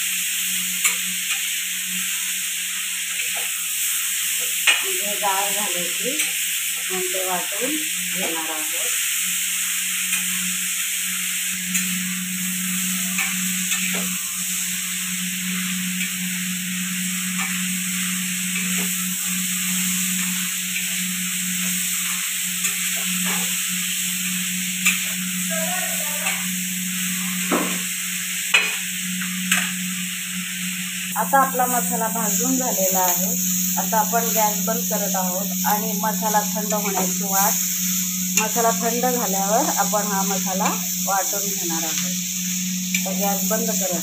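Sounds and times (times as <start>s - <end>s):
vegetables sizzling in a pan: 0.0s - 44.0s
steady low hum: 3.8s - 44.0s.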